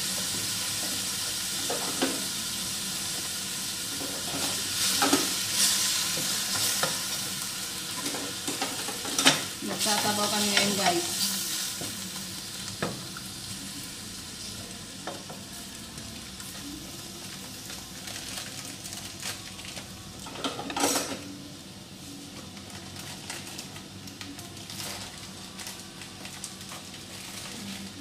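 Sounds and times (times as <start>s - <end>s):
chicken sizzling in a pot: 0.0s - 28.0s.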